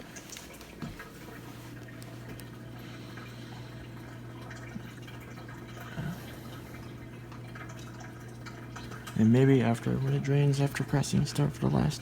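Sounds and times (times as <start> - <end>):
dishwasher low hum: 0.0 - 12.0
water gurgling through drain: 1.1 - 12.0.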